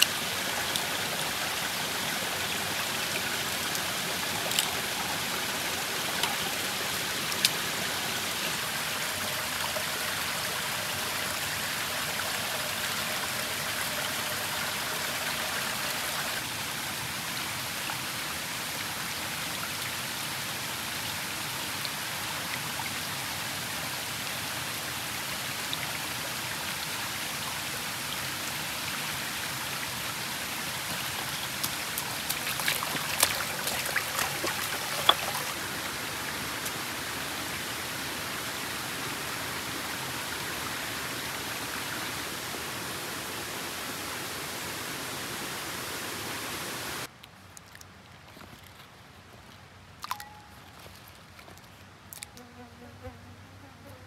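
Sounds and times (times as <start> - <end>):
stream flowing over stones: 0.0 - 48.5, 49.7 - 52.3.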